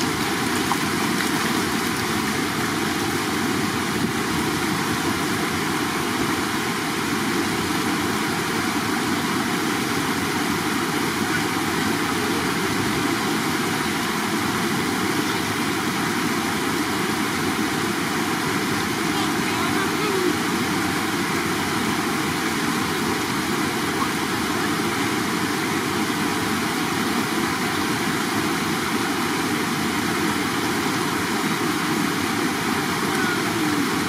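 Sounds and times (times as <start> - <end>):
running water rushing: 0.0 - 34.0.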